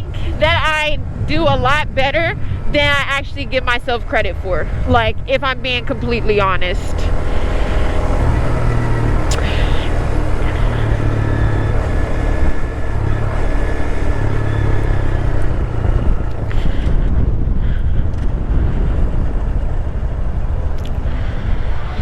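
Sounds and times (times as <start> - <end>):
motorcycle engine running: 0.0 - 22.0
wind rumble on microphone: 0.0 - 22.0.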